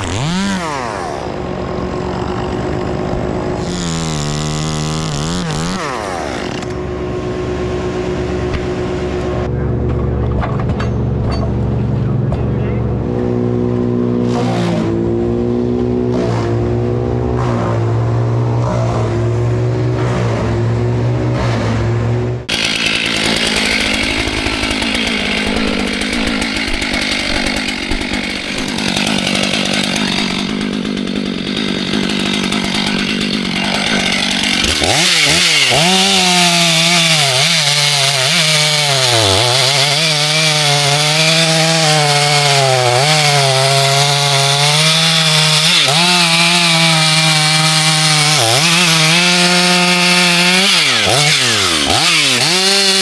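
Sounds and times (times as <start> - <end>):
chainsaws cutting wood: 0.0 - 9.5, 13.1 - 53.0.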